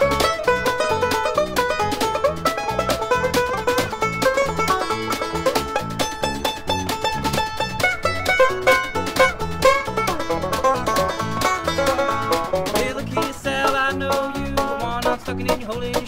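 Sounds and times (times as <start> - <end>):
banjo picking: 0.0 - 16.0
damped snare drum: 0.0 - 16.0
electric bass line: 0.0 - 16.0.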